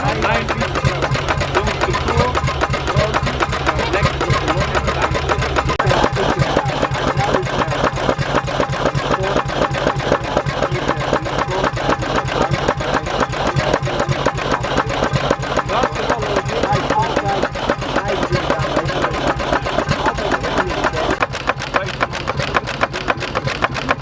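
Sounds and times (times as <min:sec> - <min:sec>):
two-stroke engine knocking: 0:00.0 - 0:24.0.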